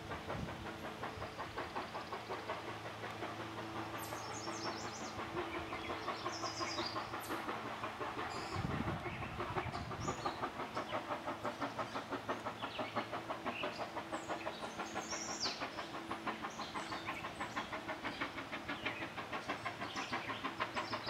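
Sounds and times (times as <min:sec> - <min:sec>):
train rhythmic beat: 0:00.0 - 0:21.0
birds chirping: 0:01.0 - 0:21.0.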